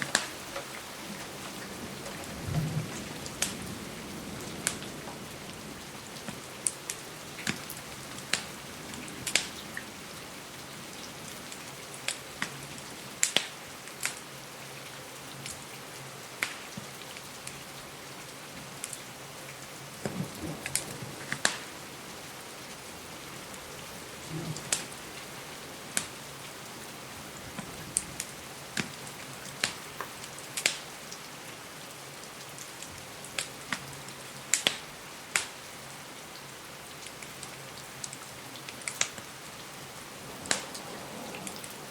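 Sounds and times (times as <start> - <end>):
wood fire crackling: 0.0 - 14.3, 16.3 - 17.6, 18.3 - 35.8, 36.4 - 41.9
steady rain falling: 0.0 - 41.9.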